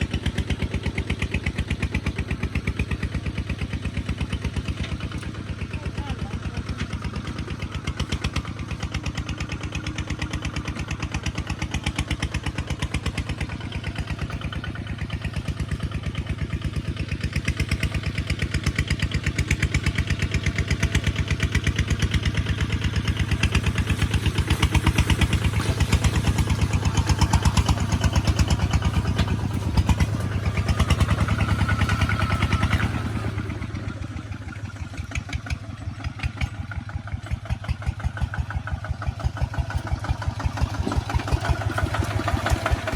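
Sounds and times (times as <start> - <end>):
diesel engine chugging: 0.0 - 42.9.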